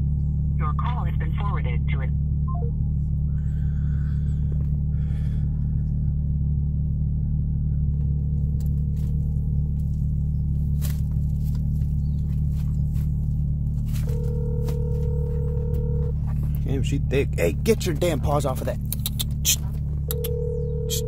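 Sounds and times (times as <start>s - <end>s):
car engine humming: 0.0s - 21.0s.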